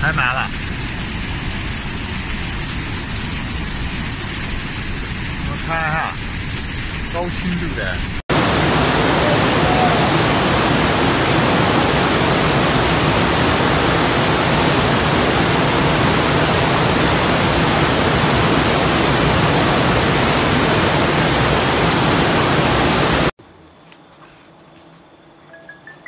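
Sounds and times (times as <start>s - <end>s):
steady hissing rushing noise: 0.0s - 26.0s.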